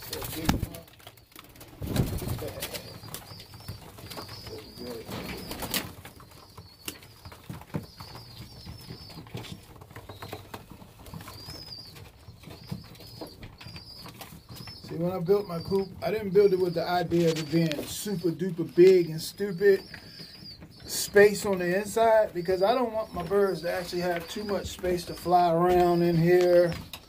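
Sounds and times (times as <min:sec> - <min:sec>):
birds shuffling and pecking: 0:00.0 - 0:27.0
pigeon cooing: 0:00.0 - 0:27.0
wings flapping: 0:00.0 - 0:27.0
thin high peeping calls: 0:02.1 - 0:27.0.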